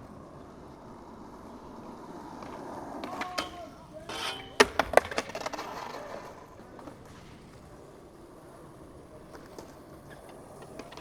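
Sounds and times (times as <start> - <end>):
skateboard wheels rolling: 0.0 - 11.0.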